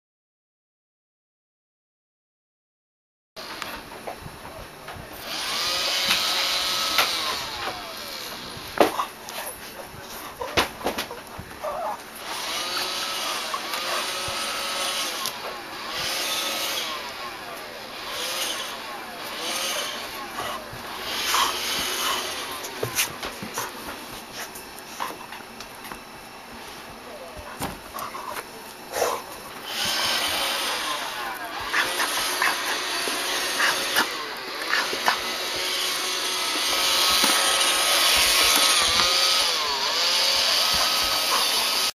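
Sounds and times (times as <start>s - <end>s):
robot vacuum whirring: 5.0s - 10.0s, 11.3s - 26.0s, 26.9s - 41.9s.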